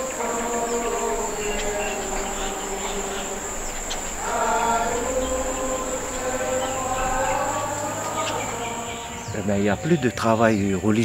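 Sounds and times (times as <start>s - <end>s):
high-pitched insect drone: 0.0s - 11.0s
voices singing held notes: 0.0s - 11.0s.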